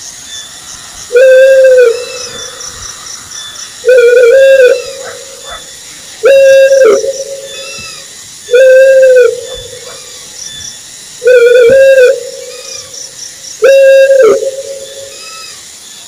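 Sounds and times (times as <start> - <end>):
faint high chirping: 0.0 - 16.0
owl hooting: 1.1 - 10.6, 11.2 - 15.6.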